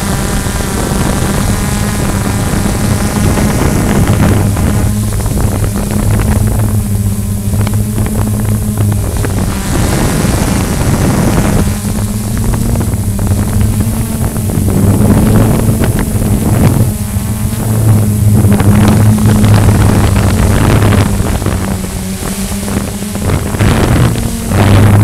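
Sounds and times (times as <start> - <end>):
drone motors humming: 0.0 - 25.0
propeller wash on microphone: 0.0 - 25.0.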